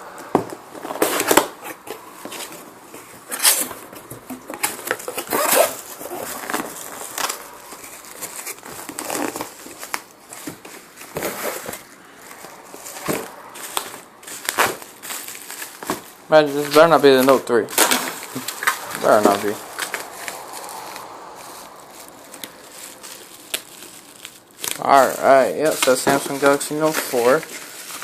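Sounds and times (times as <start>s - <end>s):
packaging tape tearing: 0.8s - 2.6s, 3.2s - 28.0s.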